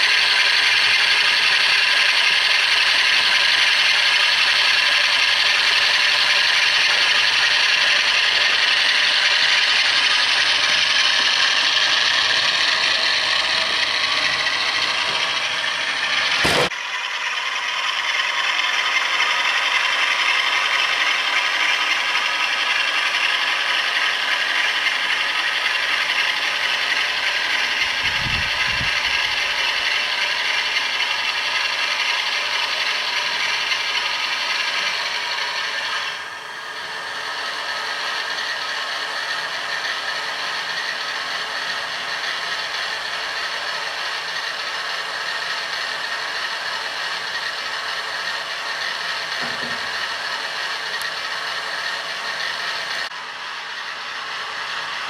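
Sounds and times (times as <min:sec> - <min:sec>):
model locomotive diesel engine sound: 0:00.0 - 0:55.0.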